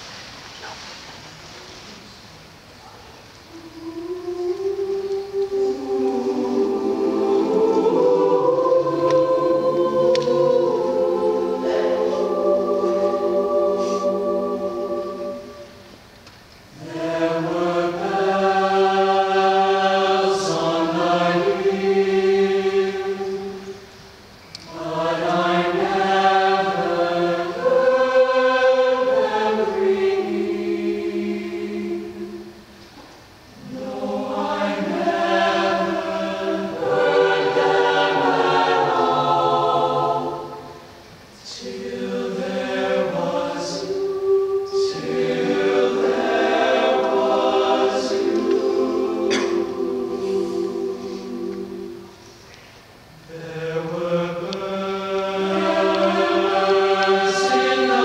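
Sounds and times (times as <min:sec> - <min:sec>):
choir singing sustained chords: 0:03.4 - 0:58.0.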